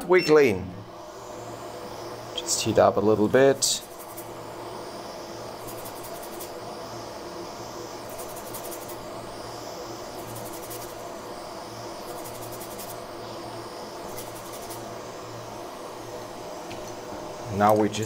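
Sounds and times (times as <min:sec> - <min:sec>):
hot air station hissing: 0:00.0 - 0:18.0
faint rapid chirring: 0:01.0 - 0:15.6.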